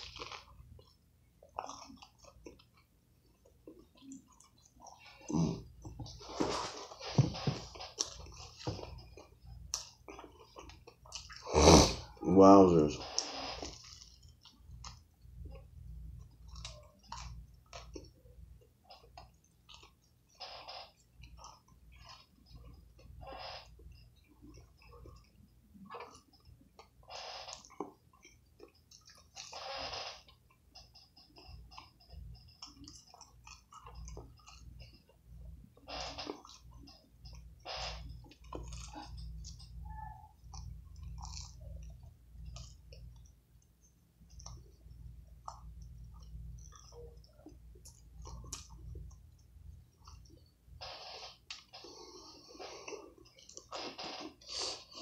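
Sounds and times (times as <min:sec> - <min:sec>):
person chewing: 0:00.0 - 0:12.2, 0:13.0 - 0:55.0
faint low hum: 0:00.0 - 0:55.0.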